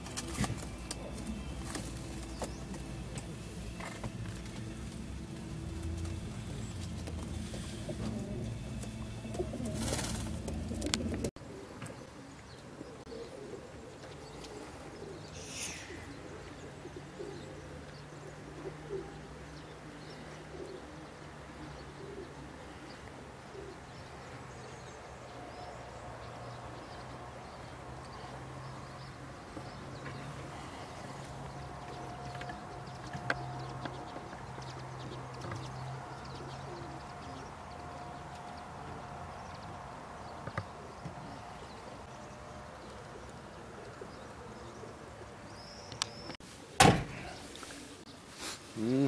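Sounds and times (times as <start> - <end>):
pigeons cooing: 0.0 - 45.6, 46.6 - 49.0.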